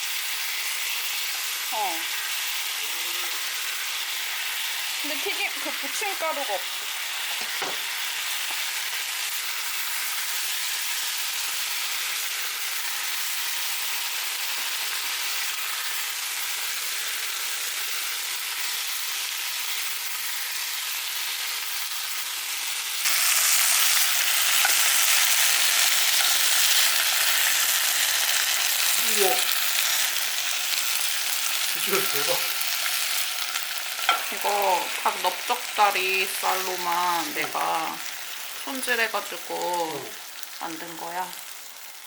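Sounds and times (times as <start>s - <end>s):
chicken deep-frying in oil: 0.0s - 42.0s.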